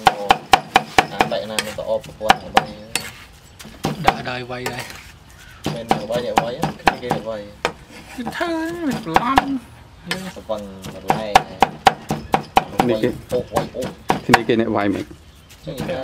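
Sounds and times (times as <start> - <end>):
cleaver chopping on wooden board: 0.0 - 4.9, 5.6 - 7.8, 8.7 - 14.6.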